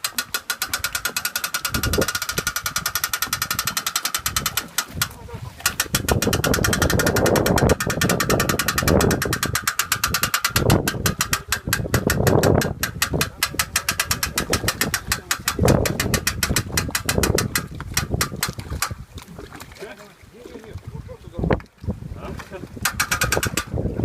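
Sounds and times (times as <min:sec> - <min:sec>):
outboard motor running: 0:00.0 - 0:21.1.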